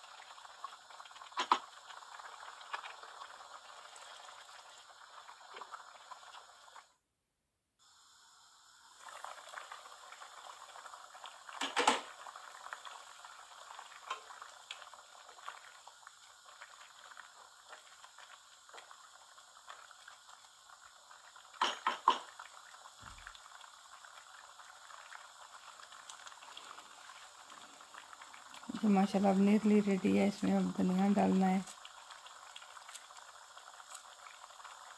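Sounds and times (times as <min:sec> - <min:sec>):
curry bubbling in a pan: 0:00.0 - 0:07.0, 0:07.8 - 0:34.9.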